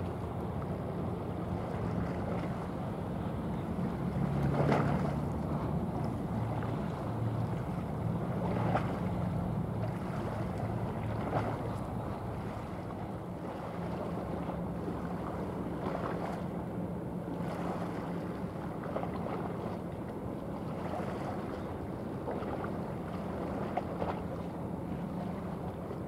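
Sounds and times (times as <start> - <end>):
ship engine low hum: 0.0 - 26.0
water rushing along hull: 0.0 - 26.0.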